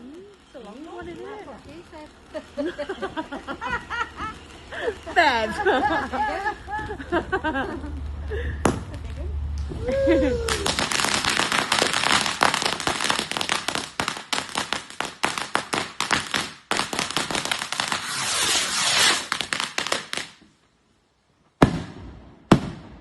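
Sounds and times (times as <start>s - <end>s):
fireworks crackling: 0.0s - 20.7s.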